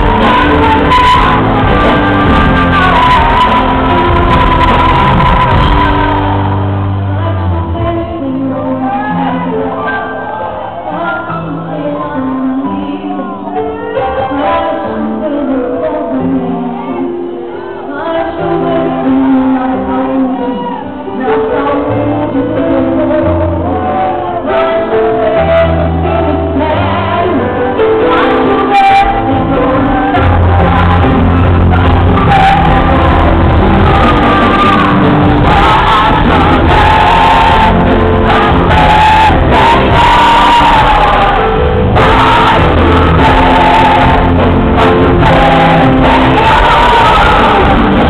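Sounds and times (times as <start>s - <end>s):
sustained singing: 0.0s - 48.0s
worship band playing: 0.0s - 48.0s.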